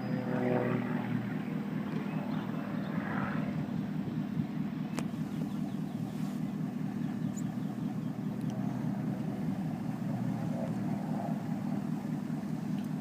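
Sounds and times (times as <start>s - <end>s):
propeller airplane engines droning: 0.0s - 13.0s.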